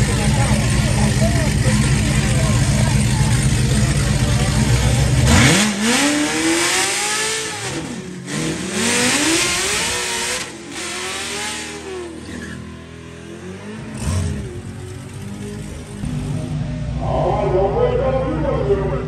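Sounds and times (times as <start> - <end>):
car engine revving hard: 0.0 - 16.1.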